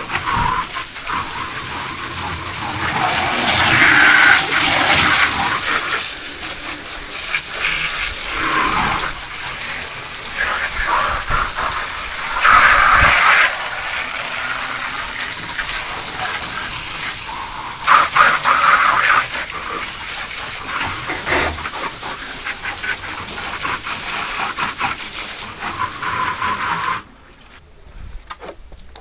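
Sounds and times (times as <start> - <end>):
water spraying from a hose: 0.0 - 27.2.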